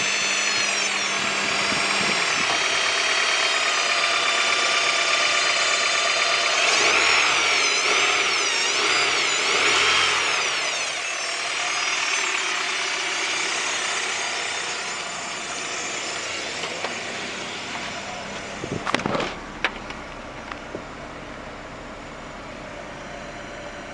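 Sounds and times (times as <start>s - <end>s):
car engine whining: 0.0s - 23.9s.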